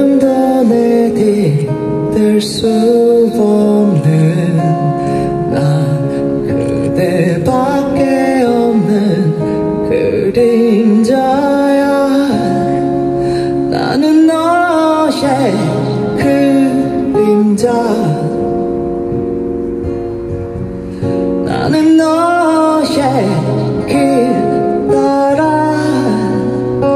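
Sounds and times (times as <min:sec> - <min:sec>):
man singing into microphone: 0:00.0 - 0:20.1, 0:20.9 - 0:26.9
band playing pop-rock: 0:00.0 - 0:26.9.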